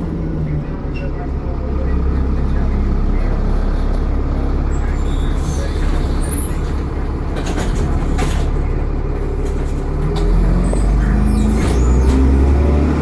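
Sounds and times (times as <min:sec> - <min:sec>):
diesel bus engine accelerating: 0:00.0 - 0:13.0.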